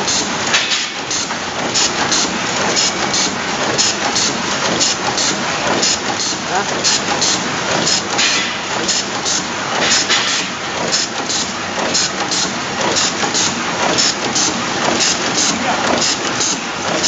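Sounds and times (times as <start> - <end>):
crimping machine running: 0.0 - 17.0.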